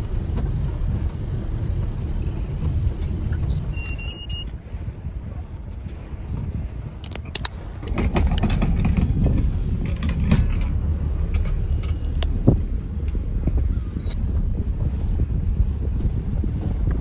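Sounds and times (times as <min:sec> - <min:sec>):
motorboat engine rumble: 0:00.0 - 0:17.0.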